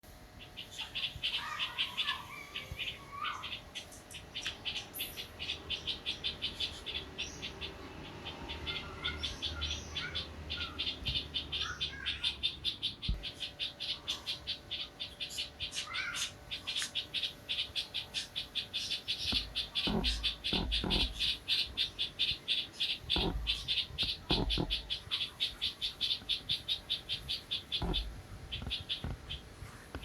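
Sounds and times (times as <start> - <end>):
rapid high pulsing chirp: 0.4 - 29.5
birds short calls: 0.4 - 30.0.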